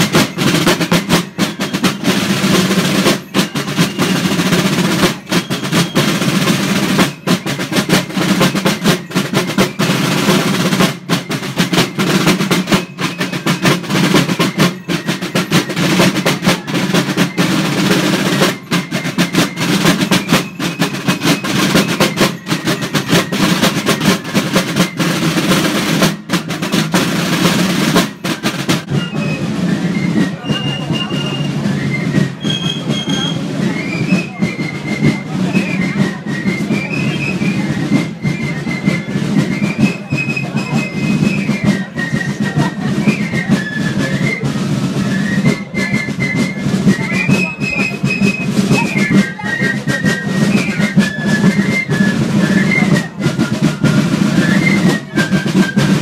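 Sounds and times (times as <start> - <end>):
snare drums playing rapid cadence: 0.0 - 56.0.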